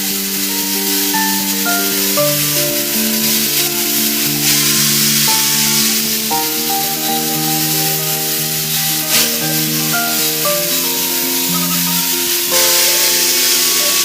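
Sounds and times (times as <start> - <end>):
instrumental music with held notes: 0.0 - 14.0
steady hiss: 0.0 - 14.0.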